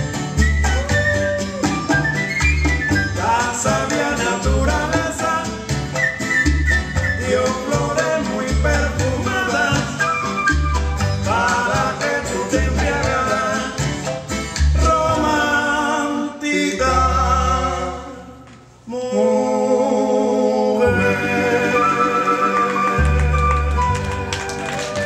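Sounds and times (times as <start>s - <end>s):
cuban son music with singing: 0.0s - 25.0s.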